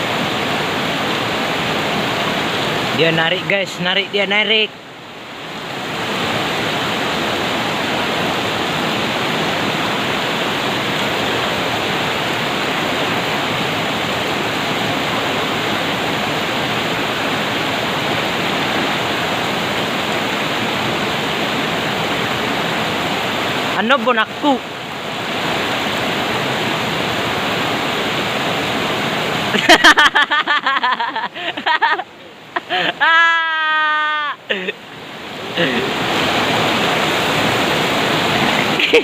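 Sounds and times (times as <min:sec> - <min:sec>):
river water rushing: 0:00.0 - 0:39.0.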